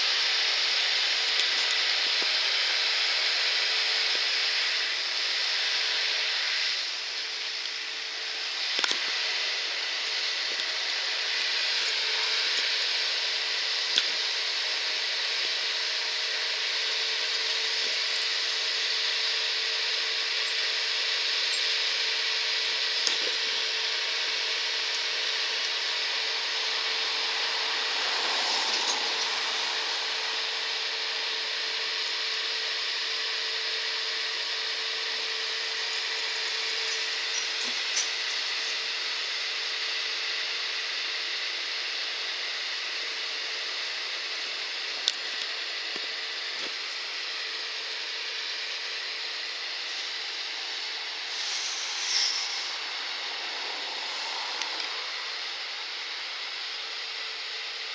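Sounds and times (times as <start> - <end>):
combine harvester whirring: 0.0 - 57.9.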